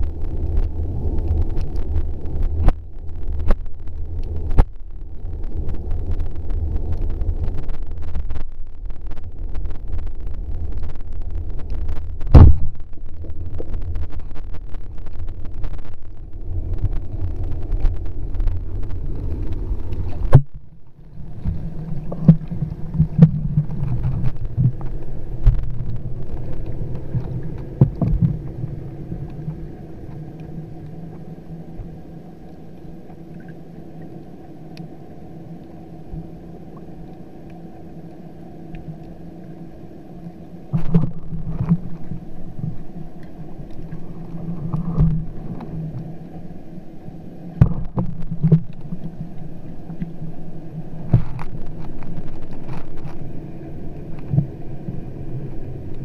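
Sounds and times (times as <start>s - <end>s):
low droning hum: 0.0s - 56.0s.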